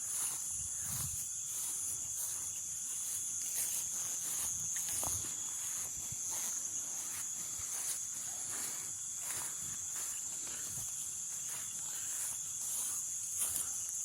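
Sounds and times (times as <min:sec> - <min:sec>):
faint low insect tone: 0:00.0 - 0:14.0
insects high-pitched trill: 0:00.0 - 0:14.0.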